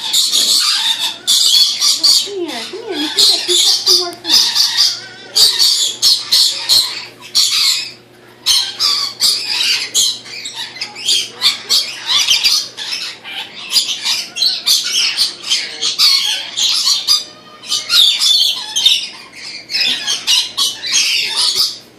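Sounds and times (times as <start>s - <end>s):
flock of parrots screeching: 0.0s - 21.9s.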